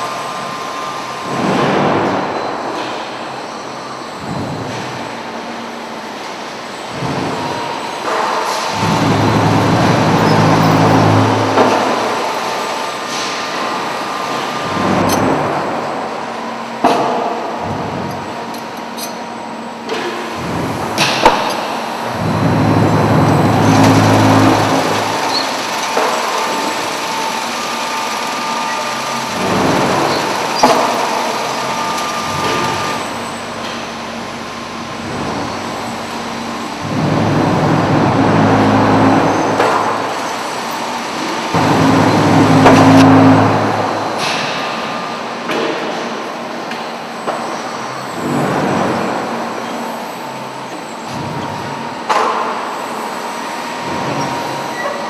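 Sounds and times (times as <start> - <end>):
factory din: 0.0 - 54.8
industrial machinery running: 0.0 - 55.0.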